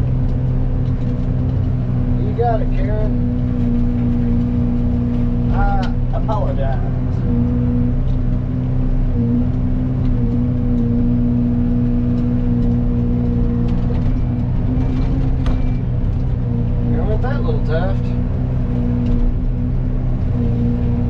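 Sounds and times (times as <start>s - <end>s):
forestry mulcher droning: 0.0s - 21.0s.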